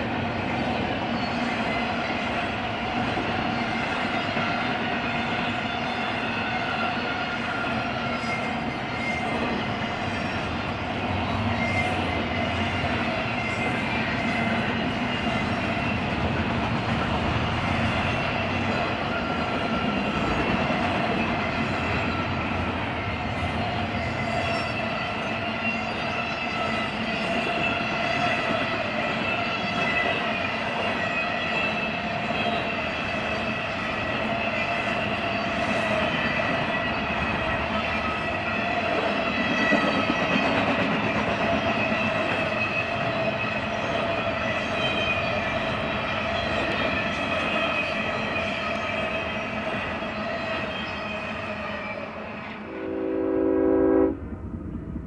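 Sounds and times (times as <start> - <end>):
freight train rolling rumble: 0.0 - 55.0.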